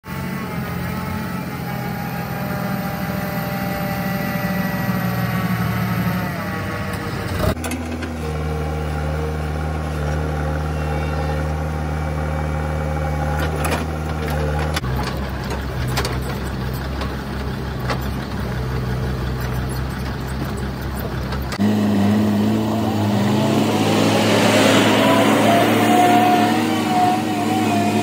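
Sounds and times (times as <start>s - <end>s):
heavy diesel engines running: 0.0s - 28.0s.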